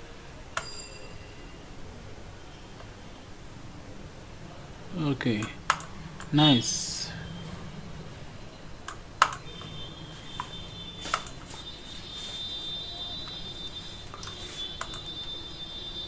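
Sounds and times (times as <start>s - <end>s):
faint high whine: 0.0s - 16.0s
low room hum: 0.0s - 16.0s.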